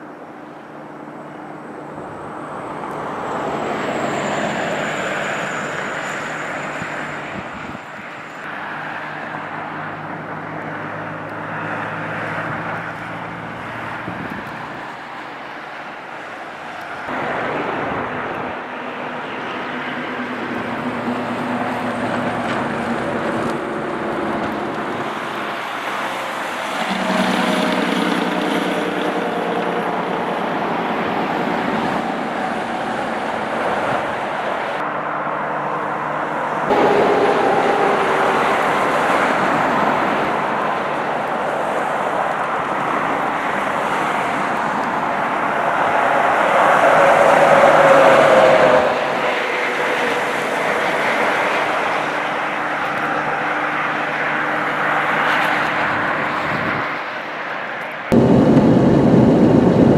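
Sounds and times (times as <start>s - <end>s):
tyres on snowy road: 0.0s - 59.9s.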